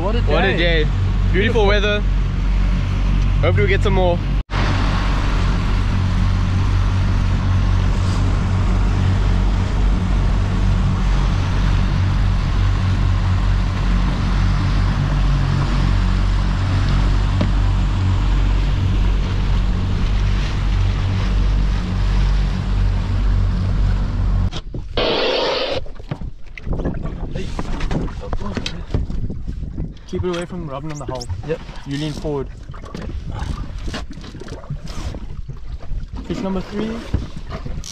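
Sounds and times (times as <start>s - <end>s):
outboard motors running: 0.0s - 37.9s
water rushing from wake: 2.8s - 37.9s
wind on microphone: 4.6s - 37.9s.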